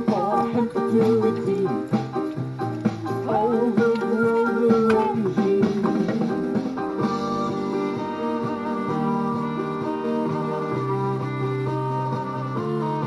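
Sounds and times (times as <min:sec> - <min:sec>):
instrumental guitar music: 0:00.0 - 0:13.0.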